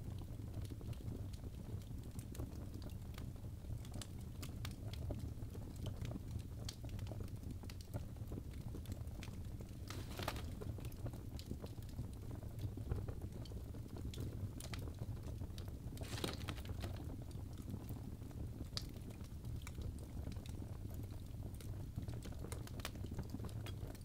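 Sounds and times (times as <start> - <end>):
logs crackling in a fireplace: 0.0 - 24.0
low fire rumble: 0.0 - 24.0.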